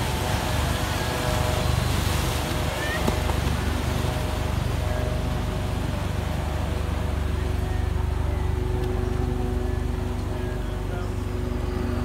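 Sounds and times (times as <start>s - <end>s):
ocean surf breaking: 0.0s - 10.2s.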